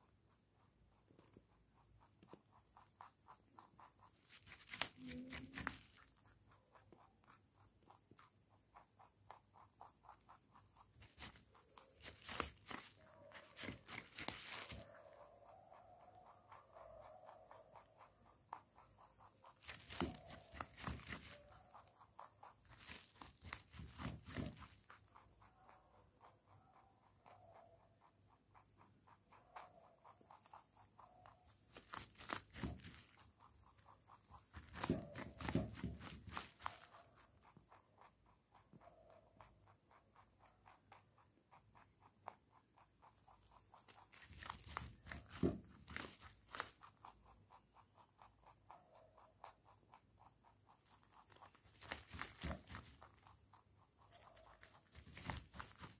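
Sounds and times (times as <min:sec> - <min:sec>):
rabbit chewing carrot: 0:00.0 - 0:56.0.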